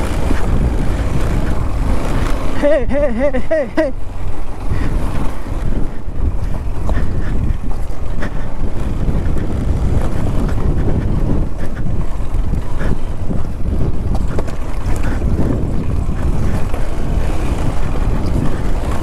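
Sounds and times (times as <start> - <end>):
motorcycle engine running: 0.0 - 19.0
wind rumbling on microphone: 0.0 - 19.0.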